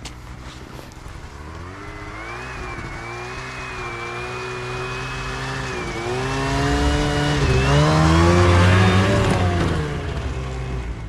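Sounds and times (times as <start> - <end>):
vehicle engine revving hard: 1.2 - 11.0.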